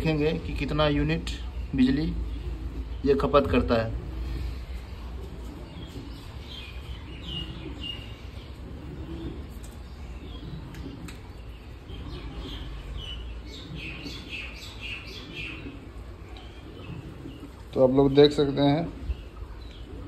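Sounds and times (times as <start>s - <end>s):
birds chirping: 0.0s - 20.0s
washing machine rumbling: 0.0s - 20.0s.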